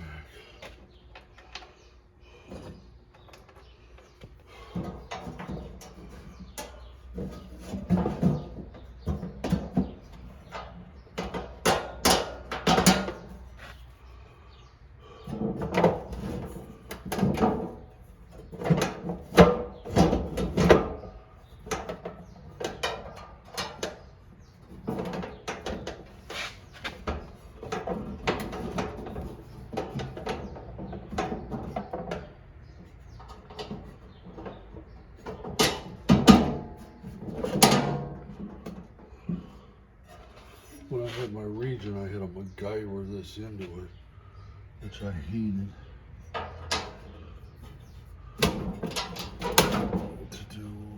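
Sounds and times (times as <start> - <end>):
metal clanks and rattles: 0.6 - 14.0, 15.1 - 40.8, 46.1 - 50.5.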